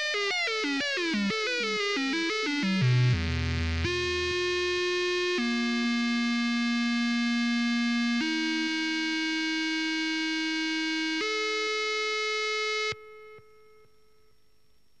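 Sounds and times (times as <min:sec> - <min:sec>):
buzzy synthesizer tone: 0:00.0 - 0:13.8.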